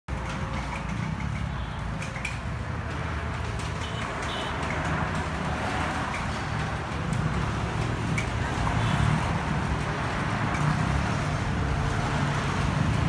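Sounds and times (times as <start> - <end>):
traffic rumble: 0.1 - 13.0.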